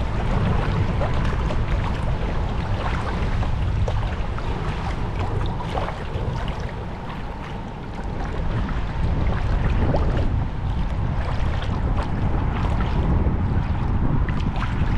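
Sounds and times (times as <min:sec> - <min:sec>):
paddle blades splashing in water: 0:00.0 - 0:14.9
water slapping hull: 0:00.0 - 0:14.9
wind rumble on microphone: 0:00.0 - 0:14.9.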